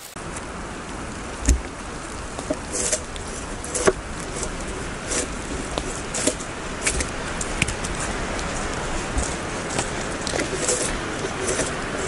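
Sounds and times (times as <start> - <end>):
rain falling in forest: 0.0 - 12.0
knocks and rustles of log handling: 0.2 - 12.0.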